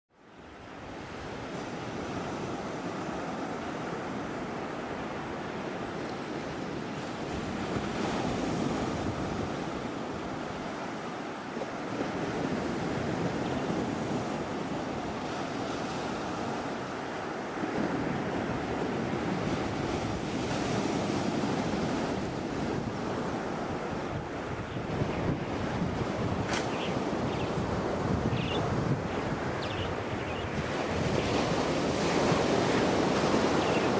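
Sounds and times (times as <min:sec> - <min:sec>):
surf washing up a sandy beach: 0:00.2 - 0:33.9
wind on the microphone: 0:00.7 - 0:33.9.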